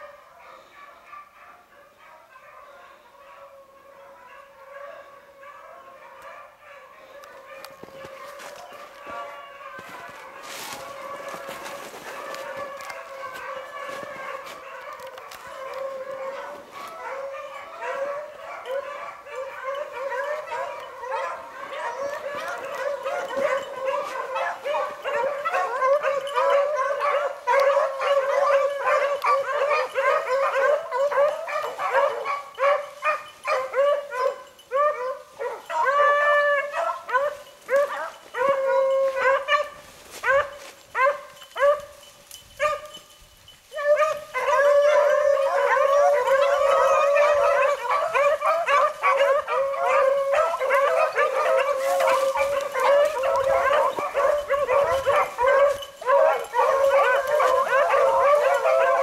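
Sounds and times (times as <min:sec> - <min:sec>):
dogs baying in chorus: 0:00.0 - 0:59.0.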